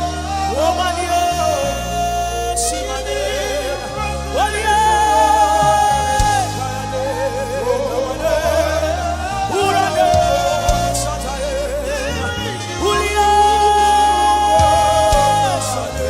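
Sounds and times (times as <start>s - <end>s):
person singing wavering vocals: 0.0s - 16.0s
sustained low chords: 0.0s - 16.0s.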